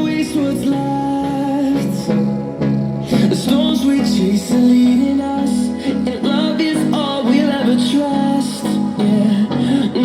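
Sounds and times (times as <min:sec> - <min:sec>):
guitar accompaniment: 0:00.0 - 0:10.0
sung melody: 0:00.0 - 0:10.0.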